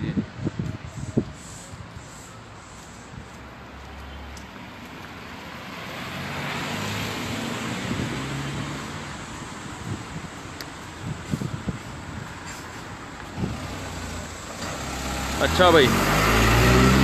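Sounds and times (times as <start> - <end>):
traffic noise: 0.0 - 17.0
car passing on wet street: 0.6 - 17.0.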